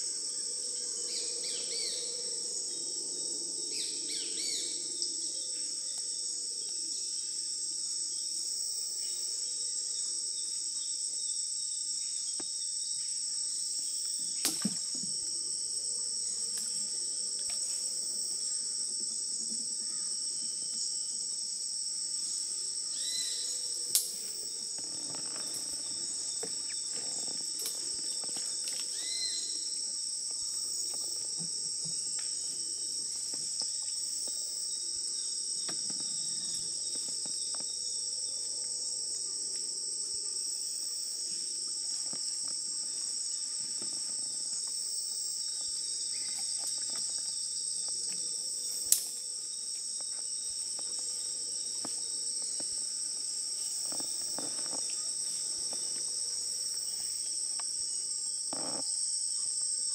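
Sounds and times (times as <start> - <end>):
insects droning shrilly: 0.0 - 10.3, 11.6 - 39.4, 40.0 - 59.5.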